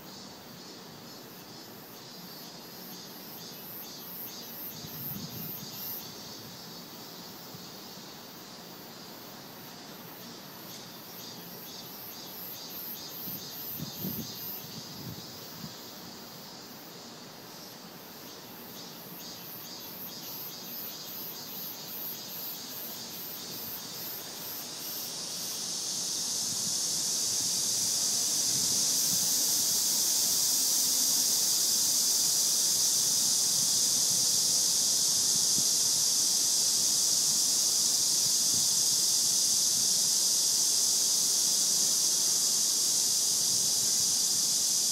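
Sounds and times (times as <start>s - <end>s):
cicadas high buzzing drone: 0.0s - 44.9s
cicadas pulsing call: 0.0s - 44.9s.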